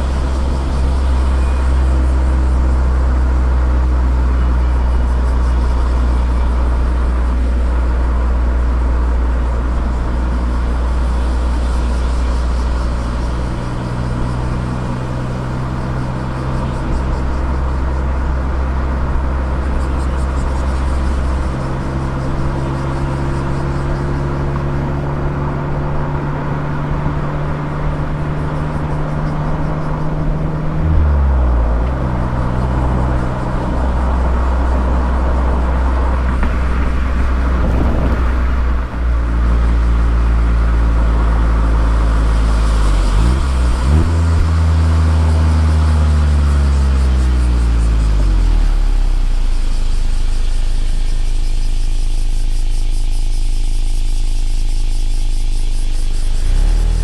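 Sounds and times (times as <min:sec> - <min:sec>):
car engine driving: 0:00.0 - 0:57.0.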